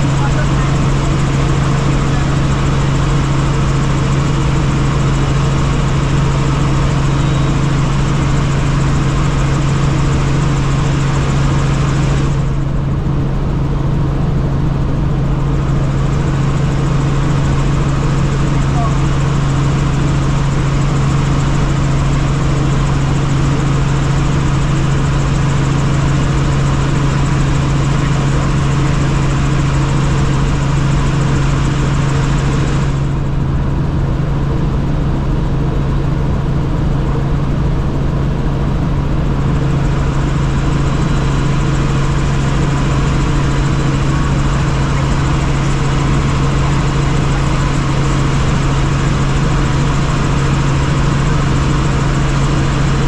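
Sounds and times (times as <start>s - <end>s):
helicopter in flight: 0.0s - 53.0s.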